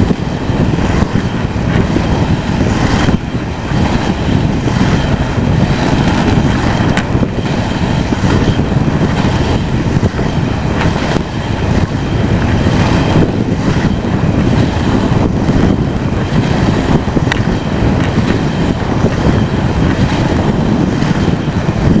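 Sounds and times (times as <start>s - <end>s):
skates rolling on asphalt: 0.0s - 22.0s.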